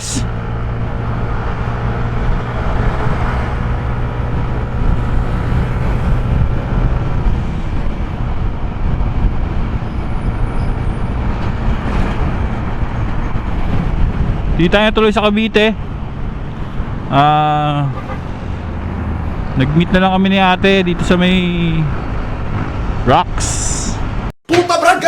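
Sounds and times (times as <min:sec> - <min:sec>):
wind noise: 0:00.0 - 0:24.3
road noise: 0:00.0 - 0:24.4.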